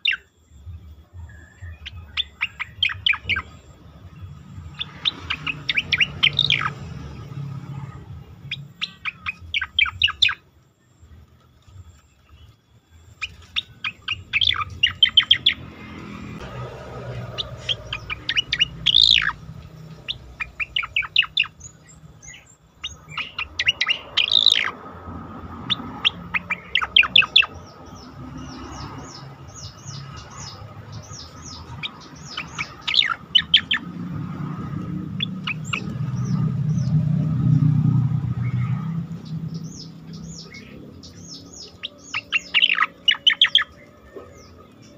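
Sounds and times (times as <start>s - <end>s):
bird singing: 0.0s - 44.9s.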